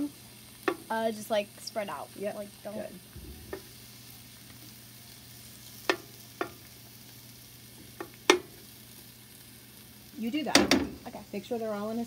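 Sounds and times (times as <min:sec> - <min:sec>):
mushrooms sizzling in a frying pan: 0:00.0 - 0:12.0.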